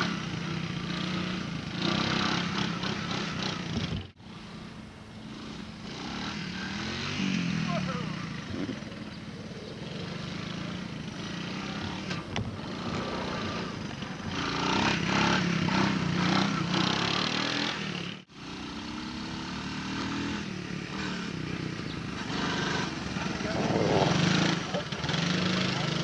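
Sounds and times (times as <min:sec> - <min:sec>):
small engine droning: 0:00.0 - 0:26.0.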